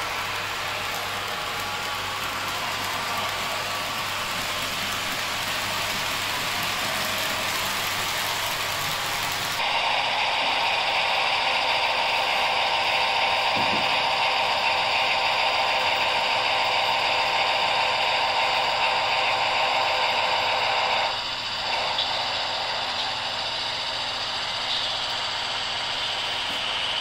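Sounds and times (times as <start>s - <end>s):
hiss: 0.0s - 27.0s
model locomotive whirring: 0.0s - 27.0s.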